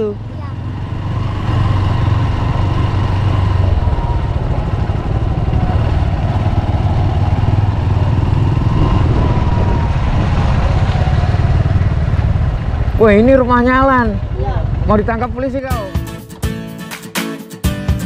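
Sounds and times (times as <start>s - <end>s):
motorcycle engine rumbling: 0.0s - 16.3s.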